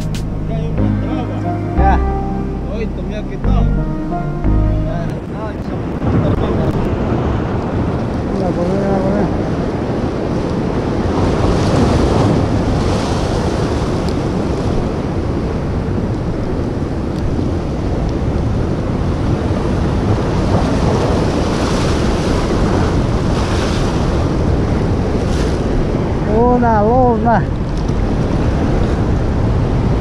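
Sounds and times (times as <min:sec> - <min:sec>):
wind buffeting microphone: 0:05.1 - 0:30.0
ocean surf washing over rocks: 0:05.3 - 0:30.0.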